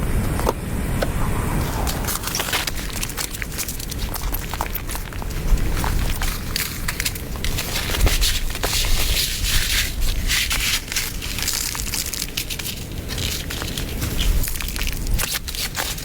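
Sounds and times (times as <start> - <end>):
wind rumbling on microphone: 0.0 - 16.0
footsteps crunching through snow: 1.7 - 16.0.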